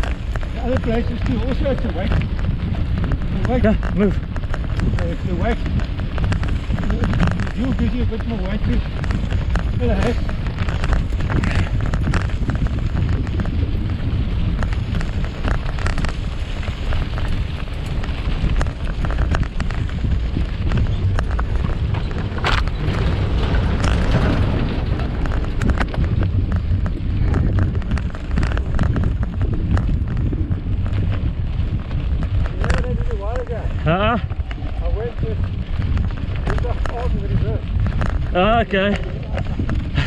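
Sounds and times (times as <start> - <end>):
bike rattling and knocking: 0.0 - 40.0
wind buffeting microphone: 0.0 - 40.0.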